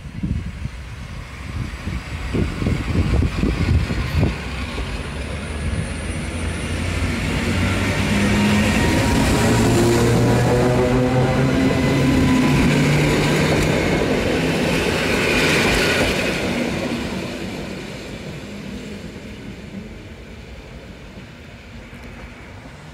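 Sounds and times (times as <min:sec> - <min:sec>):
electric train low hum: 0:00.0 - 0:22.9
wheels rumbling on rails: 0:00.0 - 0:22.9.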